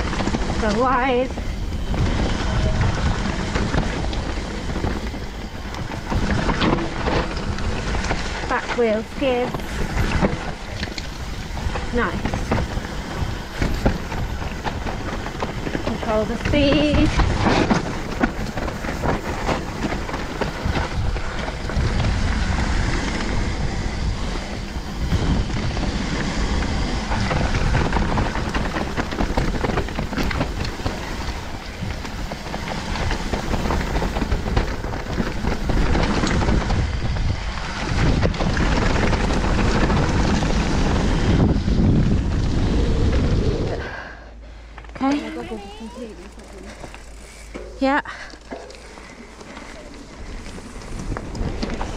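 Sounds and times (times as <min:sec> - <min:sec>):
bike knocking over bumps: 0:00.0 - 0:43.3
mountain bike rattling on trail: 0:00.0 - 0:51.9
wind buffeting microphone: 0:00.0 - 0:51.9.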